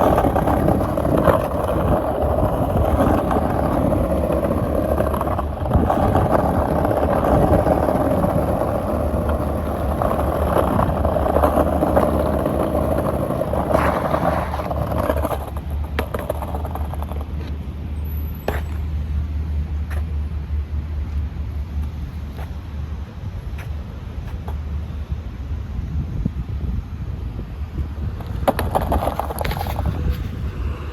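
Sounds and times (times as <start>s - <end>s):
street traffic rumble: 0.0s - 30.9s
vehicles passing: 0.0s - 30.9s.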